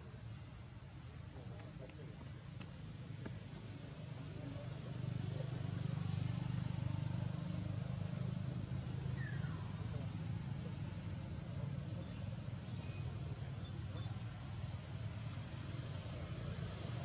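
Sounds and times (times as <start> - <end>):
passing vehicle engine hum: 1.3 - 17.0.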